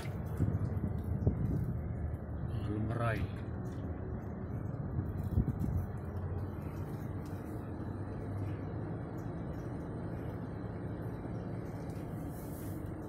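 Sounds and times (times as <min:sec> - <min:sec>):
truck engine running: 0:00.1 - 0:13.0.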